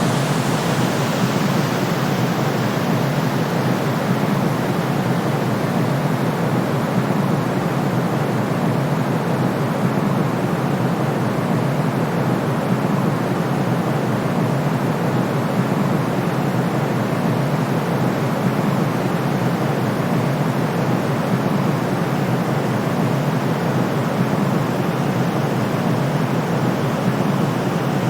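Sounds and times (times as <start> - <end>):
low white noise rush: 0.0 - 8.3, 13.2 - 28.0.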